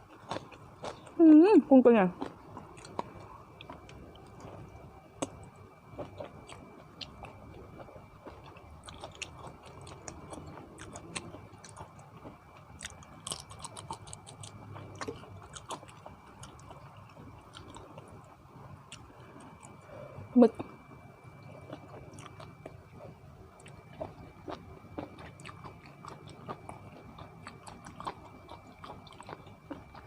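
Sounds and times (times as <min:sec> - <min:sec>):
person chewing crunchy food: 0:00.0 - 0:01.4, 0:02.2 - 0:19.9, 0:20.6 - 0:30.0.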